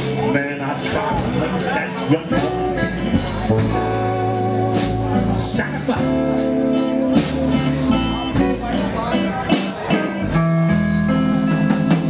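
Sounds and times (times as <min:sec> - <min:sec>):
drum kit and cymbals: 0:00.0 - 0:12.0
electric guitars: 0:00.0 - 0:12.0
upright bass: 0:00.0 - 0:12.0.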